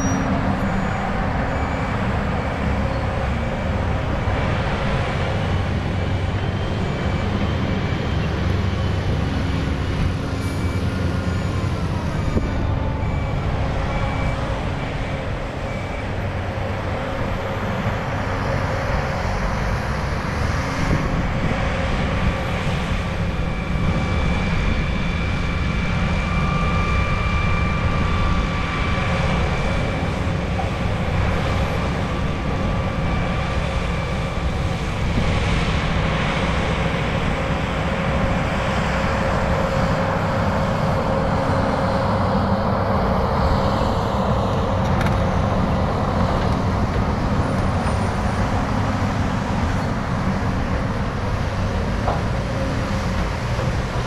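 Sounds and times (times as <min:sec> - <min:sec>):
dozer diesel engine: 0:00.0 - 0:54.0
dump truck diesel engine: 0:00.0 - 0:54.0.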